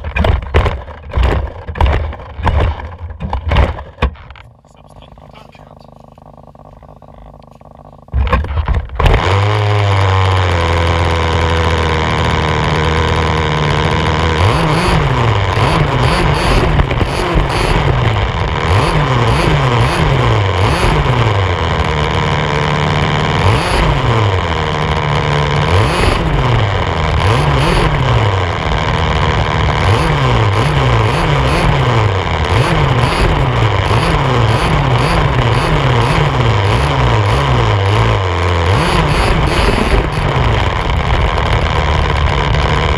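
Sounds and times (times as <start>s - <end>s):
small two-stroke engine revving: 0.0s - 42.9s.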